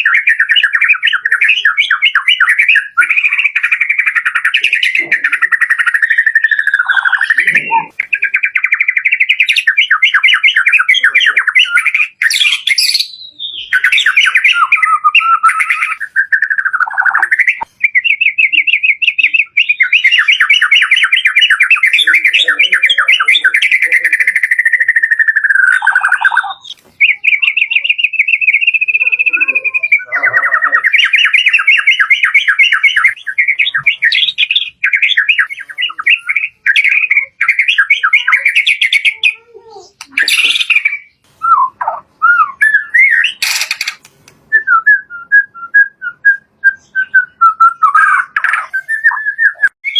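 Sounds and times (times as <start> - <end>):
bird singing fast trilling phrases: 0.0 - 49.9.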